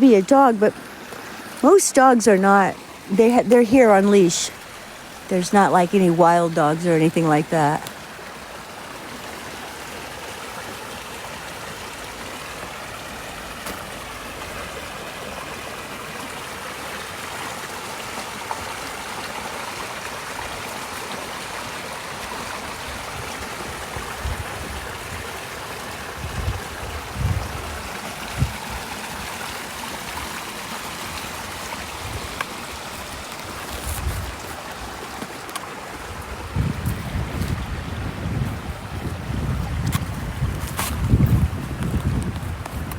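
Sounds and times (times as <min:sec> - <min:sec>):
brook water running: 0:00.0 - 0:42.9.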